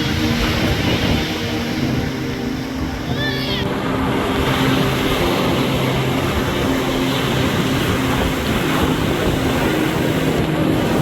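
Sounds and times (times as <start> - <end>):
storm wind roaring on microphone: 0.0 - 11.0.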